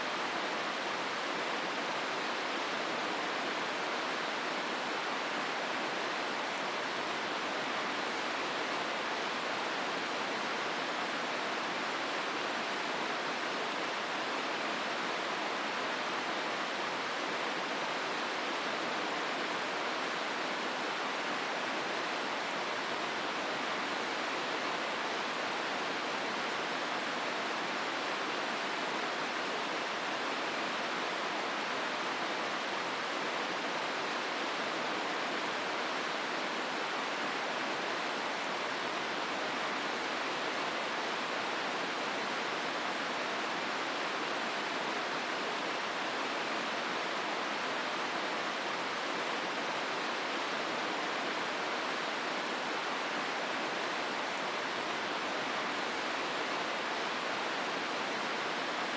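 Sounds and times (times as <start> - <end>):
river water rushing: 0.0 - 58.9.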